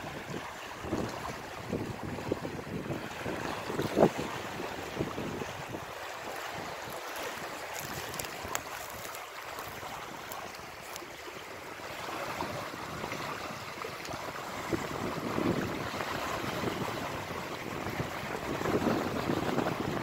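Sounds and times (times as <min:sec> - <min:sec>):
waves washing over pebbles: 0:00.0 - 0:20.0
wind rumbling on microphone: 0:00.0 - 0:20.0.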